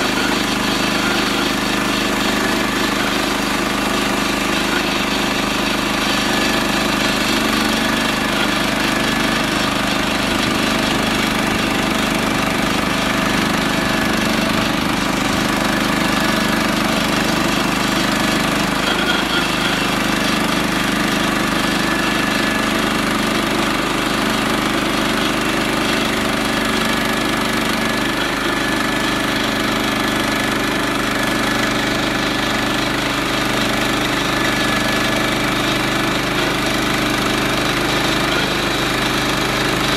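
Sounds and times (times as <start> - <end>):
small gas engine running steadily: 0.0 - 39.9.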